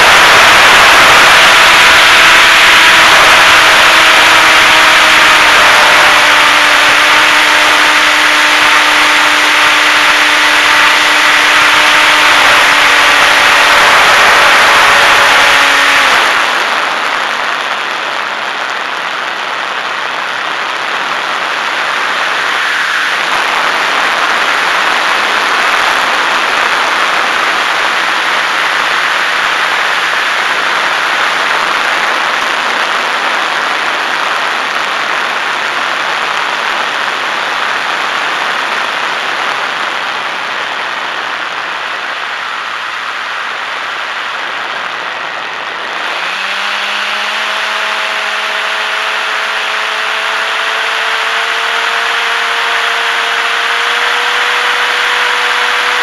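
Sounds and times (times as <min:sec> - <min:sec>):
wind and propeller rush: 0:00.0 - 0:56.0.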